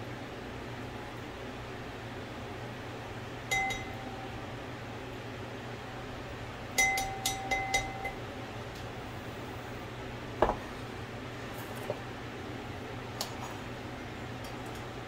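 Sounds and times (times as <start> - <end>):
kitchen fan hum: 0.0 - 15.0.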